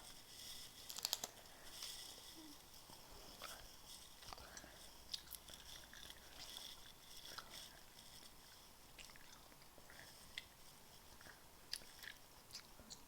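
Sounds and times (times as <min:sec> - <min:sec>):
mouth chewing sweet: 0:02.1 - 0:13.0.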